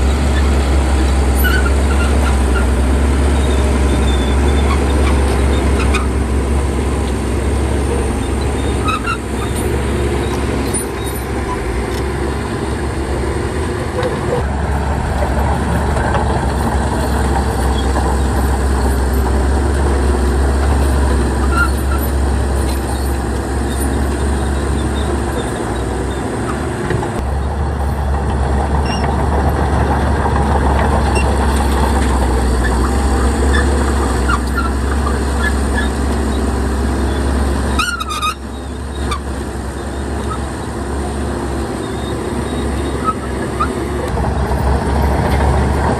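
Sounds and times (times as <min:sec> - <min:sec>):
heavy diesel engine droning: 0:00.0 - 0:45.9.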